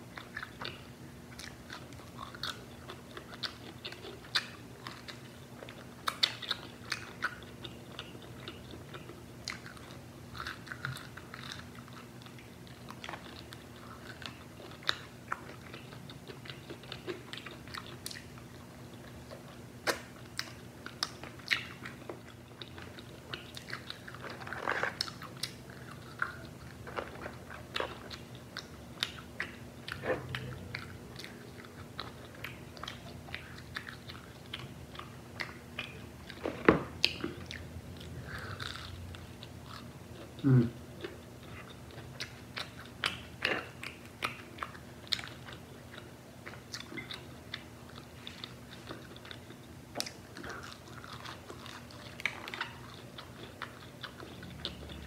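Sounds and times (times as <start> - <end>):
crunching fried chicken: 0.1 - 55.0
wet chewing: 0.1 - 55.0.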